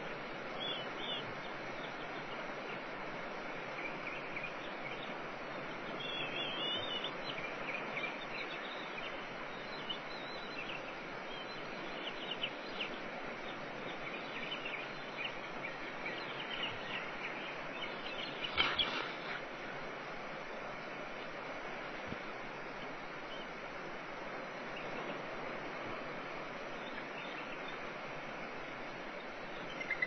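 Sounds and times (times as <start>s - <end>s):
background hiss: 0.0s - 30.0s.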